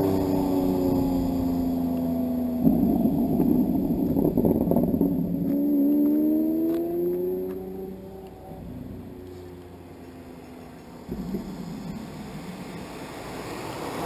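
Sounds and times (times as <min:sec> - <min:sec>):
car engines pulling away: 0:00.0 - 0:14.0.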